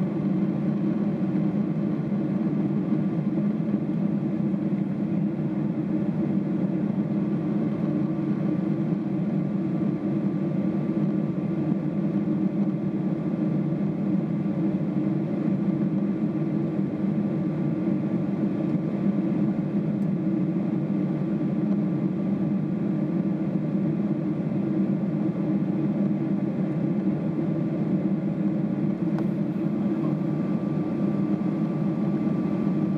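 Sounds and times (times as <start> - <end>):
airplane cabin engine drone: 0.0 - 32.9.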